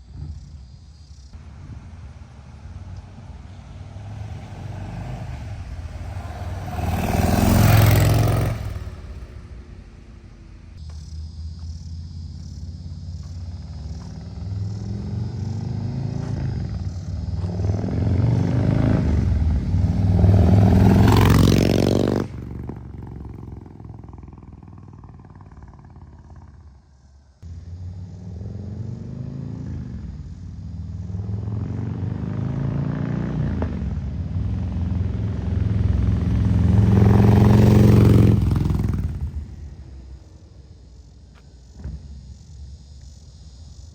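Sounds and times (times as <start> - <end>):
motorcycle engine accelerating: 1.4 - 40.2.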